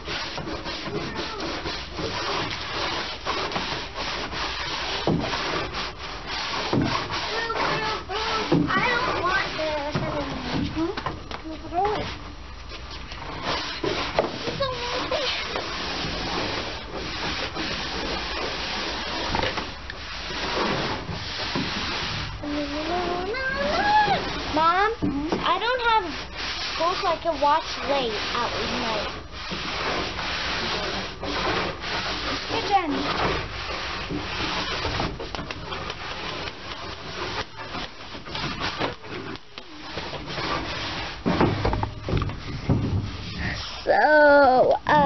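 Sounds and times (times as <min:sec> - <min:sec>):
broom scraping wooden deck: 0:00.0 - 0:45.0.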